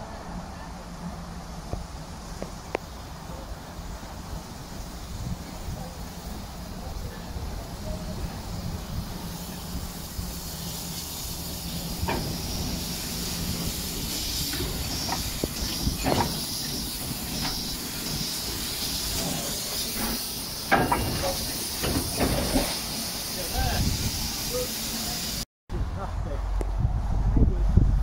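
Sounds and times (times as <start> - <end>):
steam hissing from locomotive: 0.0 - 25.5.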